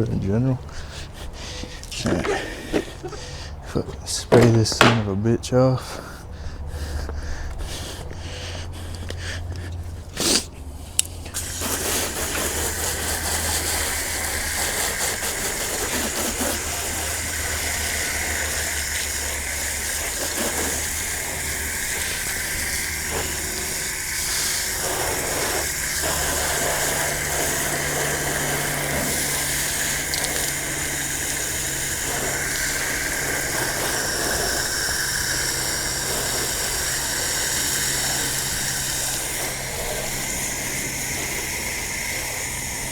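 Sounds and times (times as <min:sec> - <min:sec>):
water spray hissing: 0:00.0 - 0:05.1, 0:05.8 - 0:42.9
pressure washer pump hum: 0:00.0 - 0:42.9.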